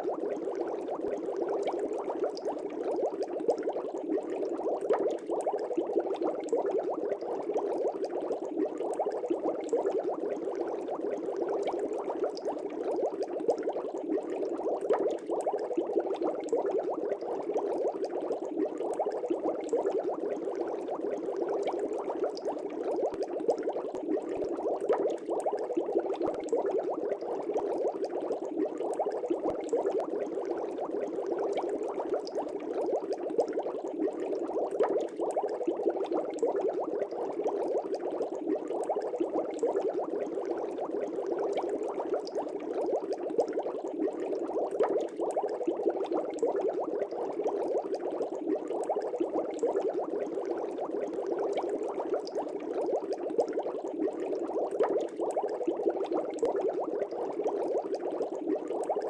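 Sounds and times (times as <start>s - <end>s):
air bubbles in fish tank: 0.0s - 59.0s.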